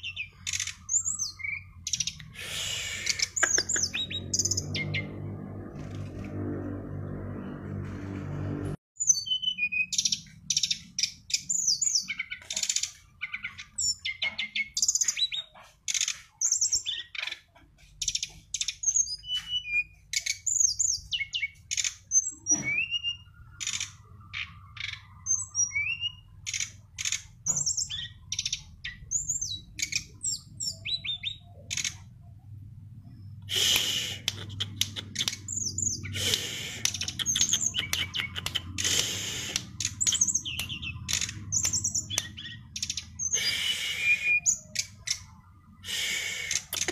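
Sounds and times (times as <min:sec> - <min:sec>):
songbird singing: 0:00.0 - 0:05.9, 0:09.0 - 0:46.9.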